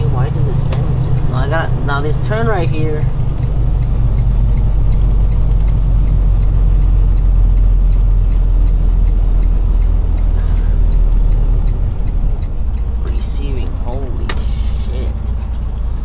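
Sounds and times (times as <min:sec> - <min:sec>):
diesel truck engine running: 0:00.0 - 0:16.0
turn signal ticking: 0:00.0 - 0:16.0.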